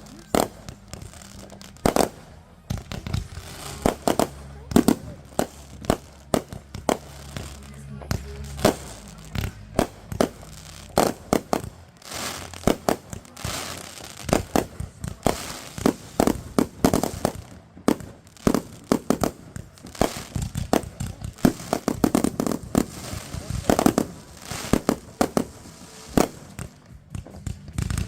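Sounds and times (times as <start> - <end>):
fireworks bangs and cracks: 0.0 - 28.0
rapid fireworks crackling: 0.0 - 28.0.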